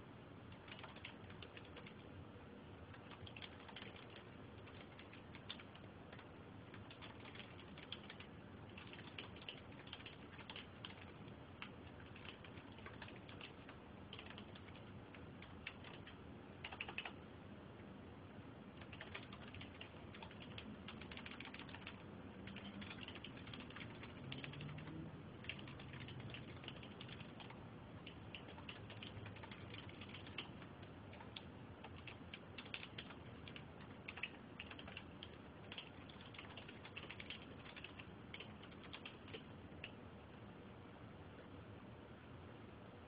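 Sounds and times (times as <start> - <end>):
computer keyboard typing: 0.5 - 2.1, 2.9 - 17.2, 18.8 - 40.0.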